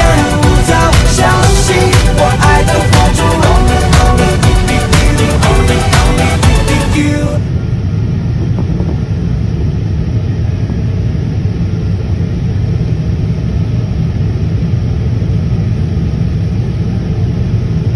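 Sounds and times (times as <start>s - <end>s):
airliner landing rumble: 0.0s - 17.9s.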